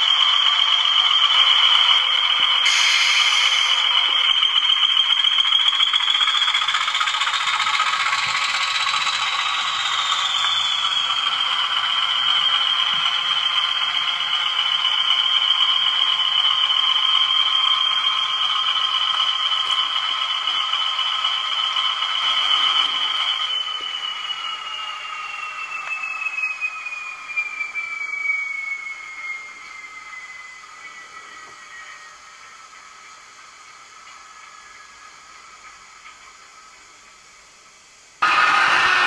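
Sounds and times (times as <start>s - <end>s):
high turbo whine: 0.0s - 37.4s, 38.0s - 39.0s.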